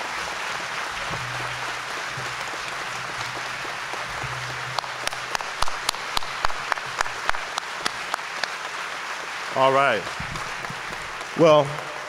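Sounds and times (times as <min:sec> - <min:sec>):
audience applauding: 0:00.0 - 0:12.0
close hand claps: 0:00.0 - 0:12.0.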